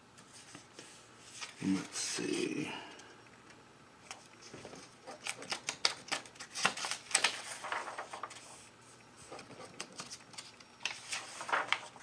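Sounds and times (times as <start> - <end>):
paper pages turning: 0.2 - 2.1, 4.1 - 12.0.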